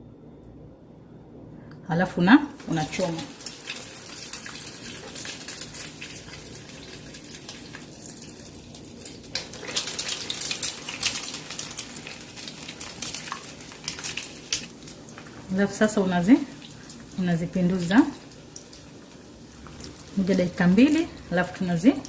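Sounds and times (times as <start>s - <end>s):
fish deep-frying in oil: 2.6s - 22.0s.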